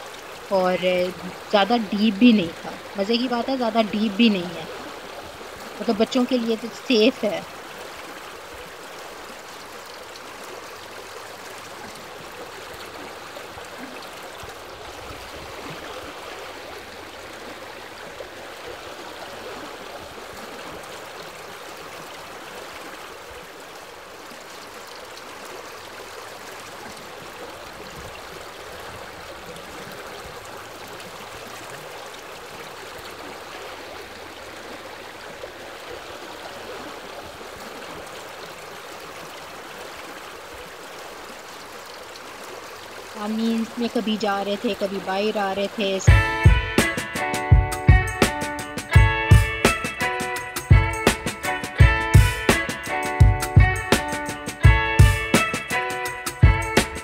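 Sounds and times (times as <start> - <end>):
lake waves washing onto shore: 0.0 - 57.0.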